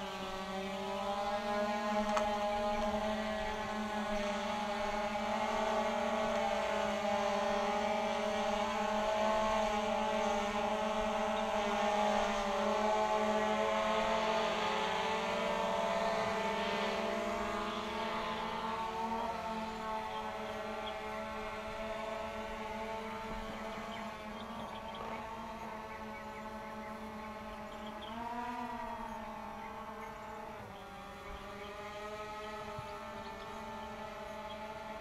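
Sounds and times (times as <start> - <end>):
quadcopter motors humming: 0.0 - 35.0.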